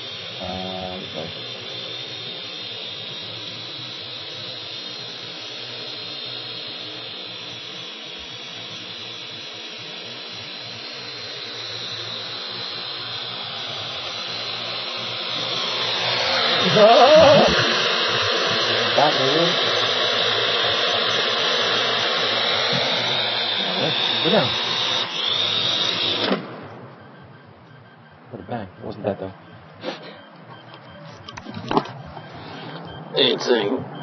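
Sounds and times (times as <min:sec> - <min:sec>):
drone propellers whirring: 0:00.0 - 0:34.0.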